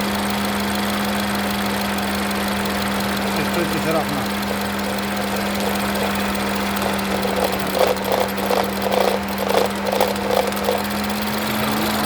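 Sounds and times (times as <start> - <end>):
uneven engine pulsing: 0.0 - 12.0
car engine humming: 0.2 - 12.0.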